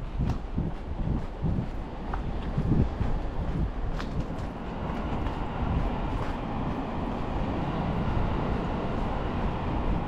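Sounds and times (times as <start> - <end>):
low rumble of passing vehicles: 0.0 - 10.0.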